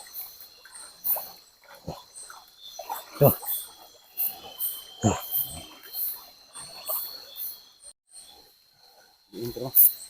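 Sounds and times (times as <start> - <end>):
insects high-pitched whine: 0.0 - 10.0.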